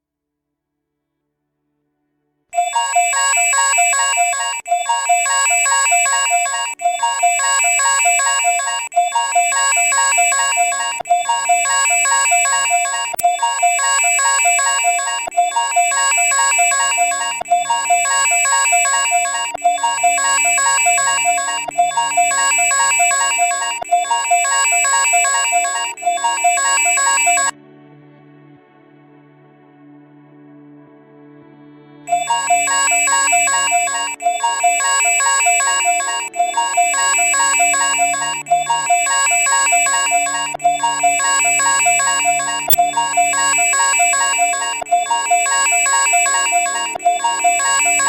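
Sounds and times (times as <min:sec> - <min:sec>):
electronic warbling alarm tone: 0:02.6 - 0:27.5, 0:32.1 - 0:48.0.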